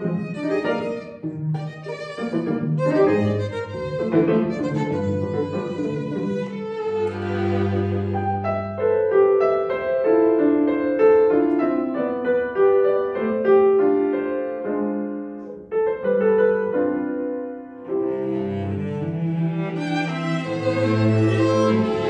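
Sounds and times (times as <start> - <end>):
grand piano playing: 0.0 - 22.0.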